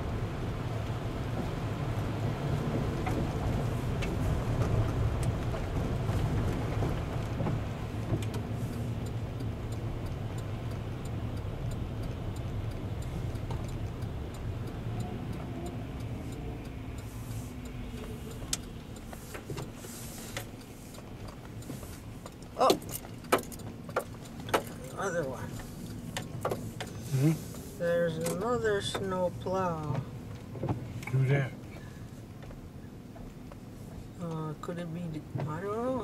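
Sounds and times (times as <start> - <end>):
car engine and road noise: 0.0 - 36.0
faint light ticks: 3.0 - 36.0.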